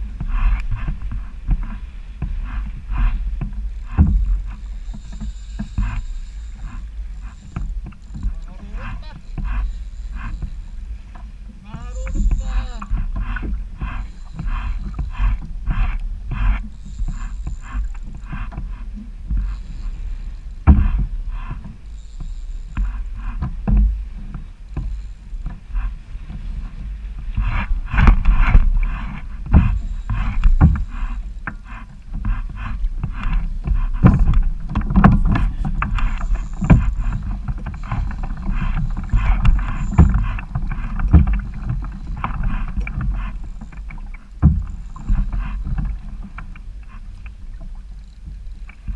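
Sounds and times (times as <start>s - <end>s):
low wind rumble on microphone: 0.0s - 48.9s
water splashing against kayak hull: 0.0s - 48.9s.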